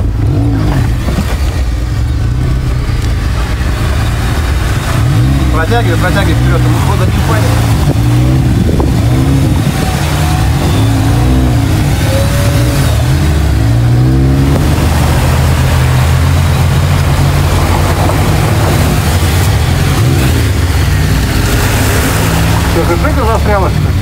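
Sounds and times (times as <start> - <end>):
engine revving hard: 3.7 - 24.0.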